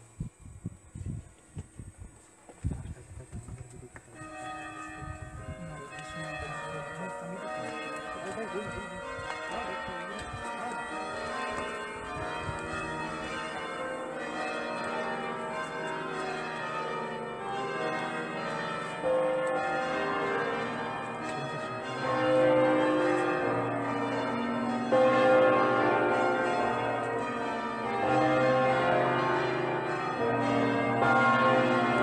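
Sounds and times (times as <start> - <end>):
church bells ringing: 4.1 - 32.0.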